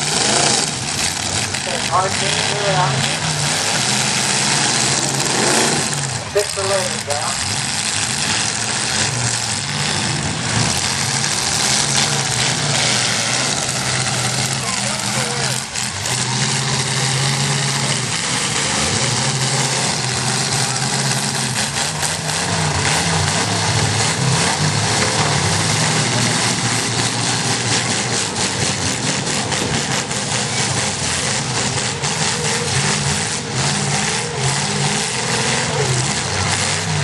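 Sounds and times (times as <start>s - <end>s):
car engines idling: 0.0s - 37.0s.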